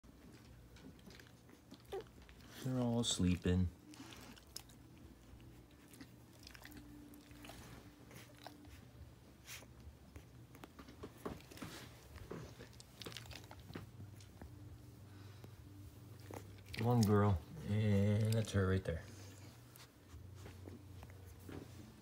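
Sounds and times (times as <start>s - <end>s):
puppies rustling on blankets: 0.1s - 22.0s.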